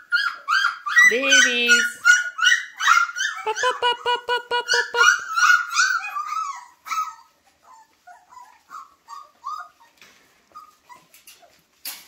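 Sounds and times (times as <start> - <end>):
puppies whimpering and squealing: 0.0 - 11.8.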